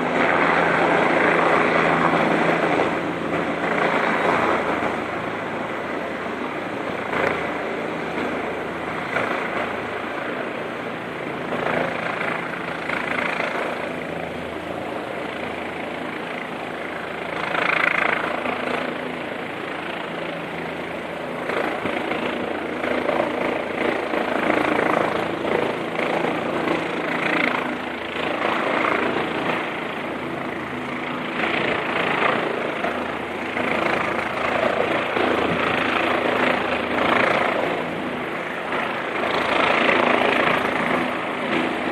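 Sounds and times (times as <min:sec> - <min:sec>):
helicopter flying overhead: 0:00.0 - 0:41.9.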